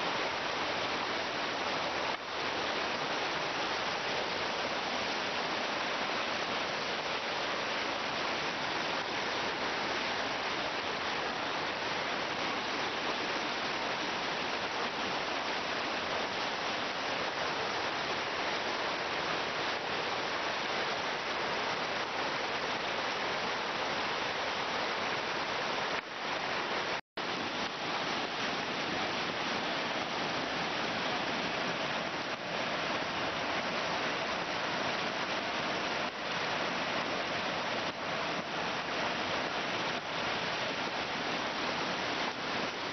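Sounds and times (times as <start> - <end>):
flooded stream rushing: 0.0 - 42.9.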